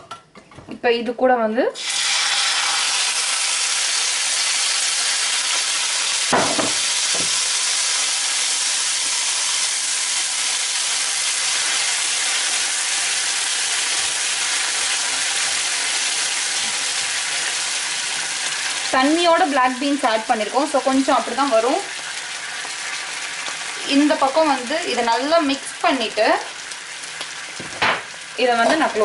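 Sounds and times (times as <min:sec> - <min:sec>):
beans sizzling in frying pan: 0:01.8 - 0:29.0.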